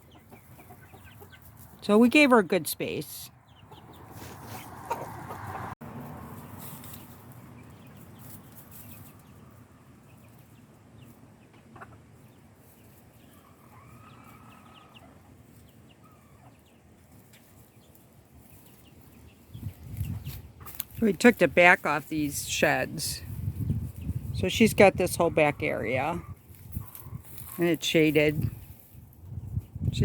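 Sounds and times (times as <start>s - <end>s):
chickens clucking: 0.0s - 5.8s, 6.4s - 29.9s.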